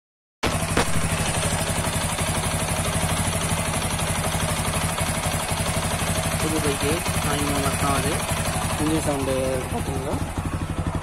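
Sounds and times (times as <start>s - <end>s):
motorcycle engine idling: 0.4s - 11.0s
rhythmic engine knocking: 0.5s - 11.0s.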